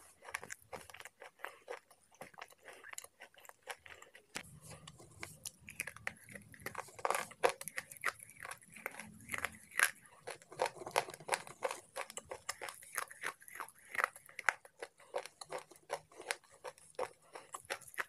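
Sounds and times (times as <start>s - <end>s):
crunching of chewed pencil: 0.0s - 18.0s.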